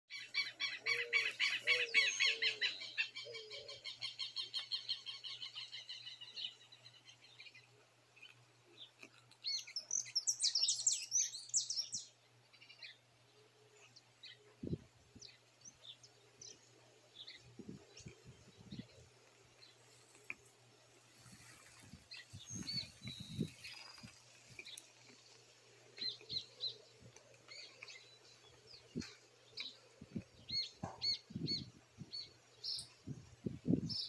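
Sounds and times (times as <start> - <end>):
birds singing: 0.1 - 34.0.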